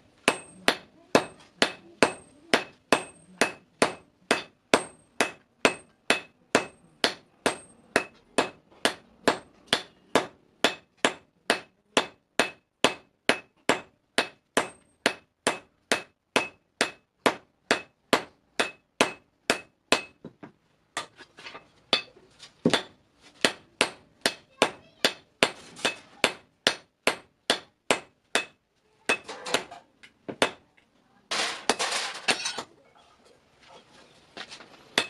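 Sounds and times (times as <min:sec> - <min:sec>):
hammer striking metal on anvil: 0:00.2 - 0:20.3, 0:21.9 - 0:22.1, 0:22.7 - 0:30.6, 0:31.3 - 0:32.6.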